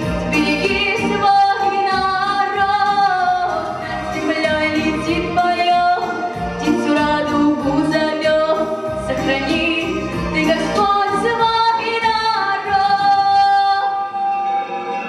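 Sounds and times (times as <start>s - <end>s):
instrumental backing track: 0.0s - 15.0s
girl singing into microphone: 0.4s - 14.3s.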